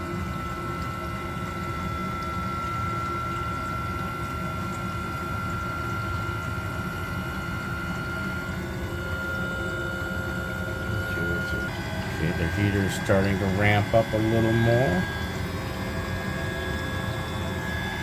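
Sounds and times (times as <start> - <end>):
coolant pumping through lines: 0.0 - 18.0
fan whine: 0.0 - 18.0
heater running: 0.0 - 18.0.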